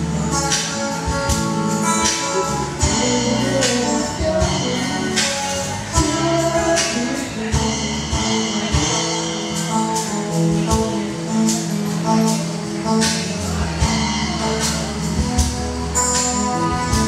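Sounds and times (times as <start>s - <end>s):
electric bass guitar: 0.0s - 17.0s
guitar playing: 0.0s - 17.0s
percussion hits: 0.0s - 17.0s.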